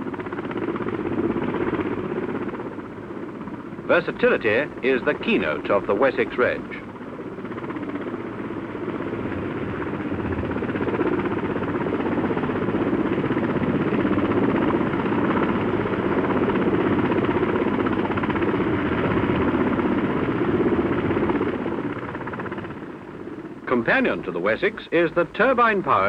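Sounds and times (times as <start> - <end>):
helicopter engine noise: 0.0 - 26.0
helicopter rotor beat: 0.0 - 26.0.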